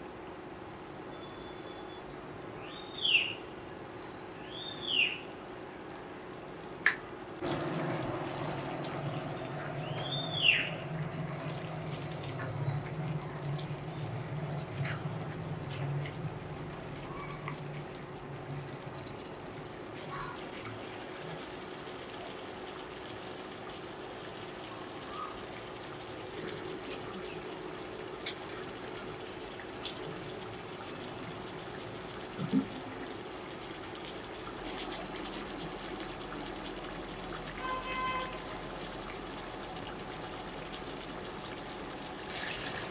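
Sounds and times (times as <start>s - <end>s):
low cooker hum: 0.0s - 42.9s.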